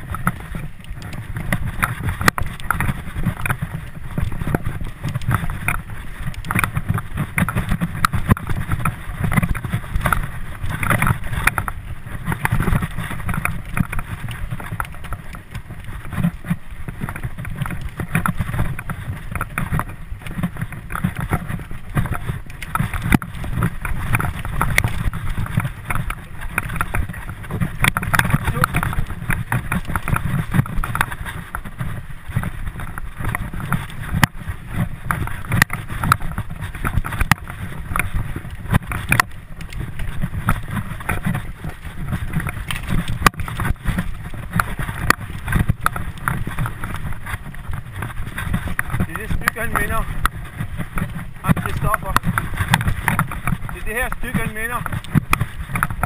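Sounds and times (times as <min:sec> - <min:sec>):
bike rattling and knocking: 0:00.0 - 0:56.0
wind on microphone: 0:00.0 - 0:56.0.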